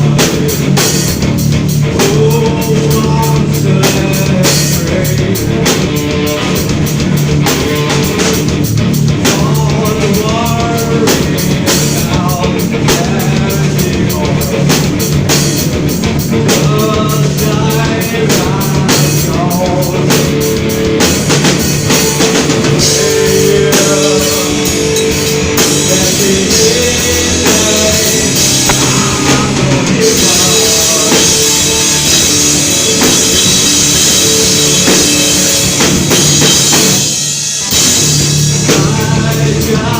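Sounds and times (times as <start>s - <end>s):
person singing: 0.0s - 1.2s, 1.8s - 6.8s, 9.2s - 15.2s, 16.2s - 21.0s, 21.6s - 39.9s
drum kit: 0.0s - 39.9s
rock band music: 0.0s - 39.9s.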